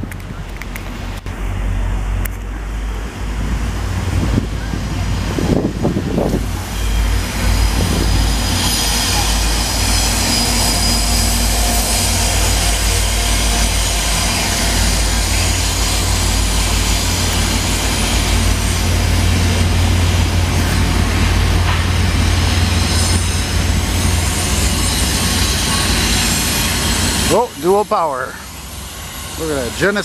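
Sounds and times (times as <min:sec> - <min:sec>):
diesel locomotive passing: 0:00.0 - 0:30.0
train wheels rumbling on rails: 0:00.0 - 0:30.0.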